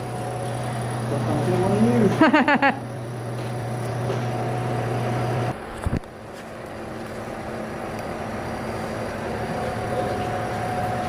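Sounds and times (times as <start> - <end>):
indoor background hum: 0.0 - 11.0.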